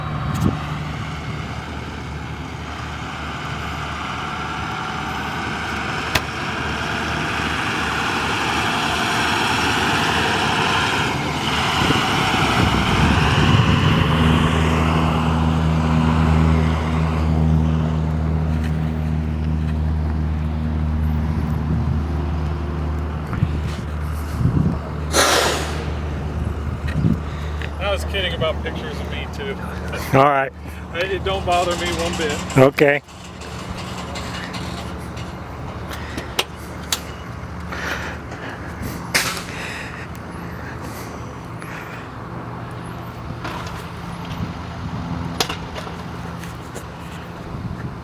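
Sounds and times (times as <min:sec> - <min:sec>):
broad rushing engine noise: 0:00.0 - 0:48.0
low engine hum: 0:00.0 - 0:48.0.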